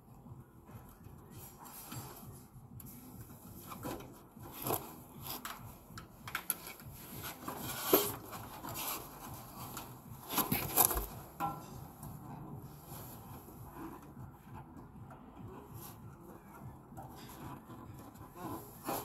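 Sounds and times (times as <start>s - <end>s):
scrapes and rustles of handling: 0.7s - 19.0s.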